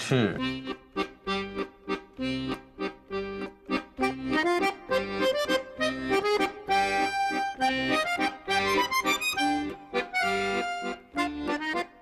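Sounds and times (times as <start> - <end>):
accordion playing lively tune: 0.0 - 12.0.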